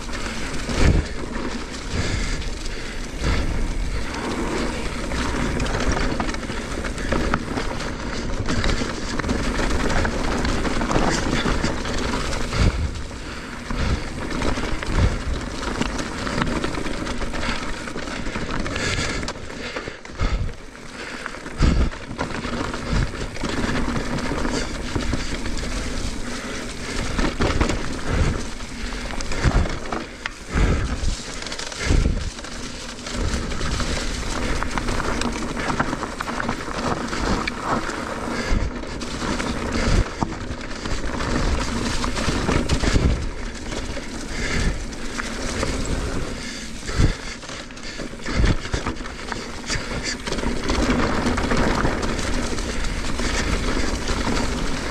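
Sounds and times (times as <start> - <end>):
bike thudding on bumps: 0.0 - 54.9
bike tyres rolling on dirt: 0.0 - 54.9.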